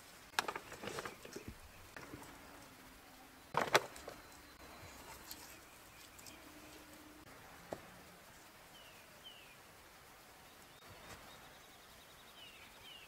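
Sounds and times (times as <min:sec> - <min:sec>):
bird calls: 0:00.4 - 0:09.7, 0:10.4 - 0:13.0.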